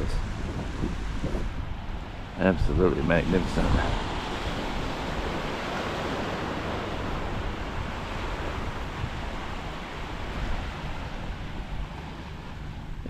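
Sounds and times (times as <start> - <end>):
surf washing onto beach: 0.0 - 13.0
wind rumbling on microphone: 0.0 - 13.0.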